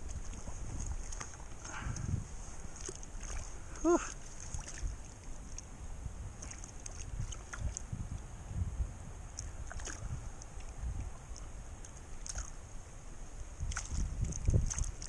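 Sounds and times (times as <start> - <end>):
stream running over rocks: 0.0 - 8.3, 9.2 - 15.0
wind rumble on microphone: 0.0 - 15.0.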